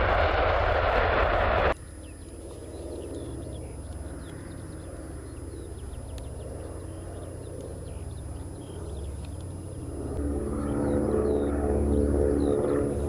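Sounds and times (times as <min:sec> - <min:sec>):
distant propeller aircraft drone: 0:00.0 - 0:13.0
birds chirping: 0:01.7 - 0:13.0.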